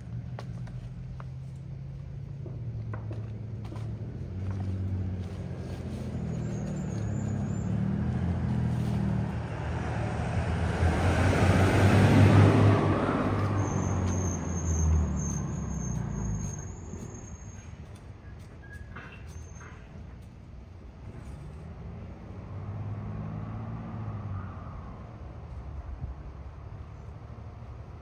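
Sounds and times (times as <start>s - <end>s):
motor vehicle passing: 0.0s - 20.2s, 21.0s - 27.9s.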